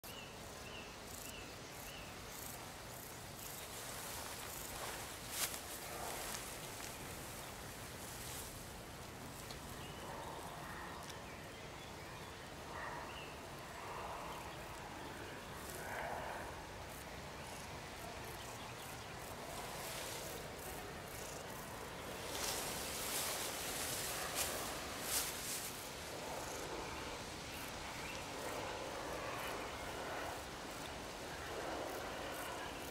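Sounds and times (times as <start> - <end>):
insects buzzing: 0.0 - 32.9
rustling of grass and clothing: 2.0 - 11.8, 13.6 - 32.9.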